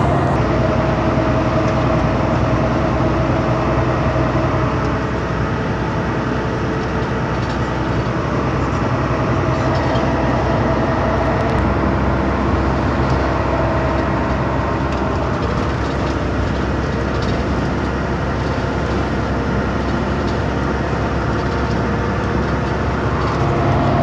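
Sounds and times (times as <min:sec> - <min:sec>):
truck engine drone from cab: 0:00.0 - 0:24.0.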